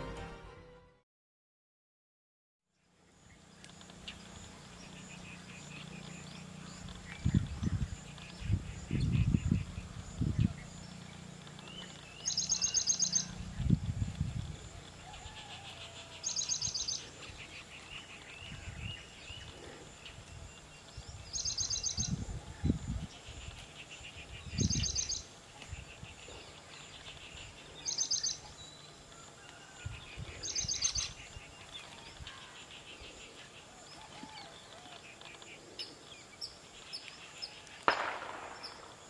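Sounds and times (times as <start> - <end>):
birds chirping: 3.1 - 39.0.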